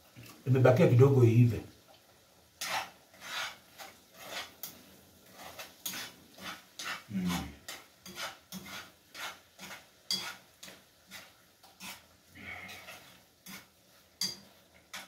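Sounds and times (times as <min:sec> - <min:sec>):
scraping food off a plate: 0:02.6 - 0:15.0.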